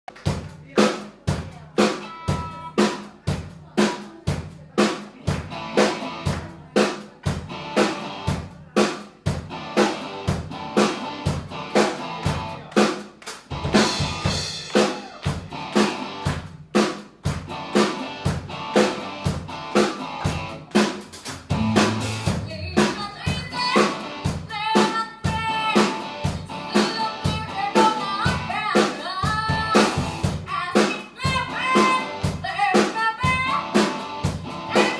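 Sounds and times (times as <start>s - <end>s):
drum kit beat: 0.1s - 34.9s.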